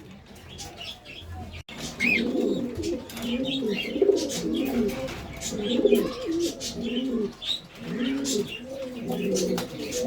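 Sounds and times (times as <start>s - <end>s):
pigeons cooing: 1.7s - 10.0s.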